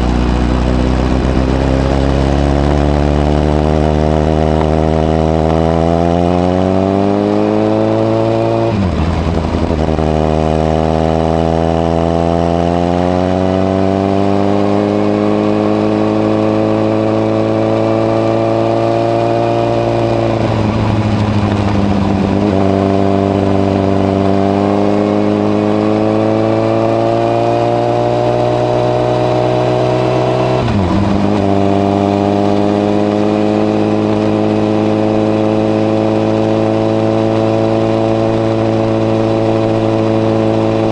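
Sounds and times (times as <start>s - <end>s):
motorcycle engine climbing in pitch: 0.0s - 40.9s.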